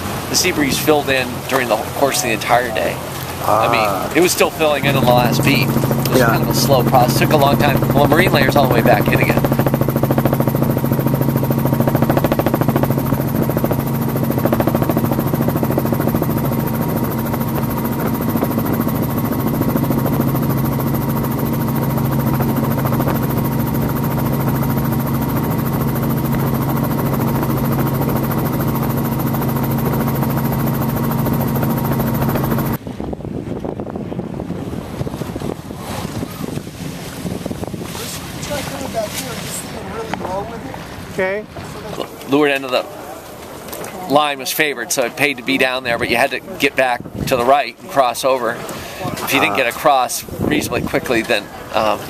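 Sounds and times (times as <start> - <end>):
helicopter rotor and engine drone: 0.0 - 52.0
wind and water noise: 0.0 - 52.0.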